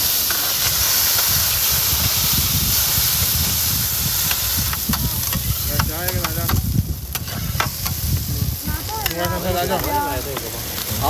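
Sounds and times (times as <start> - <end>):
food sizzling on hot surface: 0.0 - 11.0.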